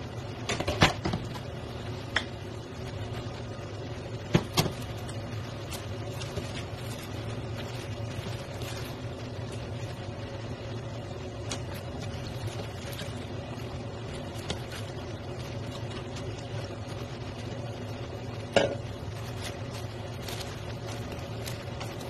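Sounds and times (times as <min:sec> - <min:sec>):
machine hum: 0:00.0 - 0:22.0
crackles from frying pan: 0:00.2 - 0:22.0
stirring cabbage in pan: 0:01.3 - 0:22.0.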